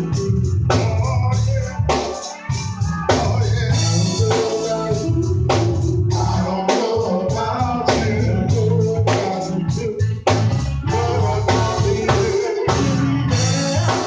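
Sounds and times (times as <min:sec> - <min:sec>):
band playing with singing: 0:00.0 - 0:14.0.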